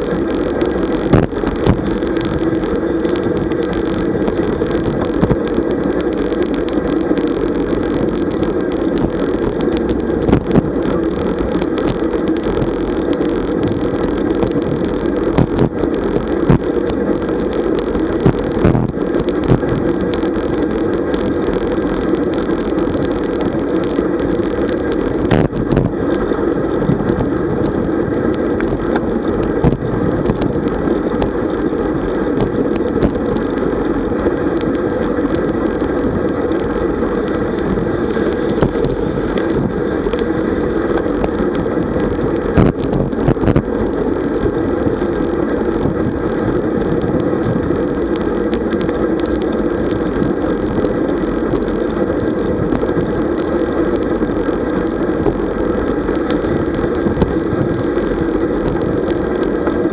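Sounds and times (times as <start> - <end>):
tyre noise on asphalt: 0.0 - 59.9
wind rushing over microphone: 0.0 - 59.9.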